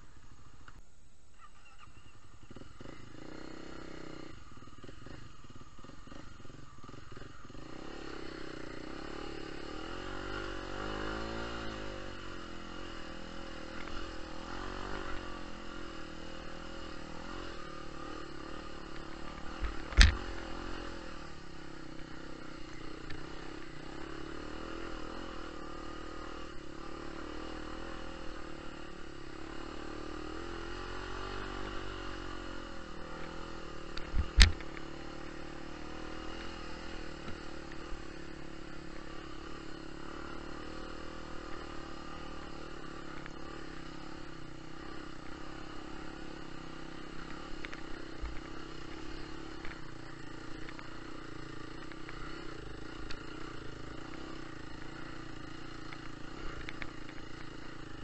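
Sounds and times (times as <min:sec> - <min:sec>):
off-road motorcycle engine: 0:00.0 - 0:58.0.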